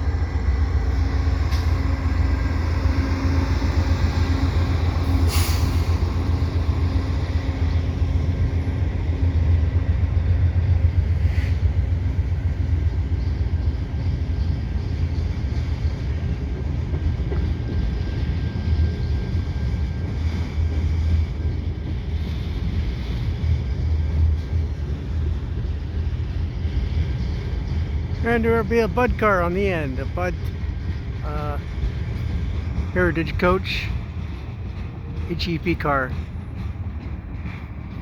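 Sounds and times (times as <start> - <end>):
diesel train running past: 0.0 - 38.0.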